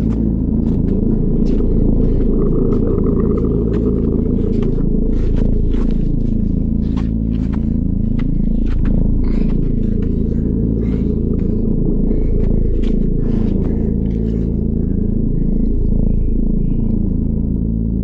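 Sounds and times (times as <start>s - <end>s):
deep rumbling drone with flanger: 0.0s - 18.0s.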